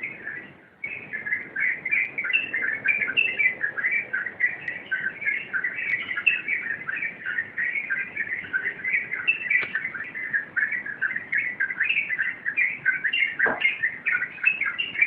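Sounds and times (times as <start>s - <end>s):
bulbul singing: 0.0s - 15.0s.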